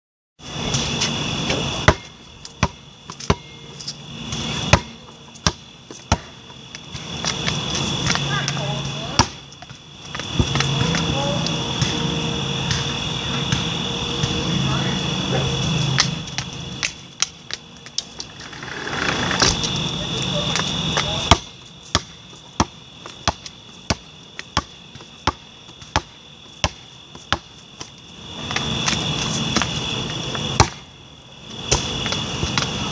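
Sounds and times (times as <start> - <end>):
basketball bouncing on hard ground: 0.5 - 14.5, 15.8 - 19.8, 20.4 - 32.9.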